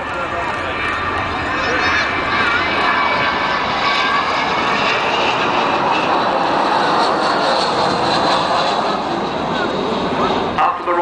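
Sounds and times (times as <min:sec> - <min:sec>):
loud jet engine noise: 0:00.0 - 0:11.0.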